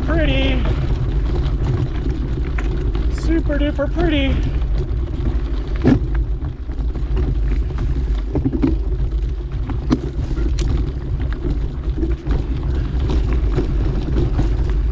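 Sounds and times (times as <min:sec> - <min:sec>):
bike clicks and rattles: 0:00.0 - 0:14.9
bike tyres rumbling on dirt: 0:00.0 - 0:14.9
wind on microphone: 0:00.0 - 0:14.9.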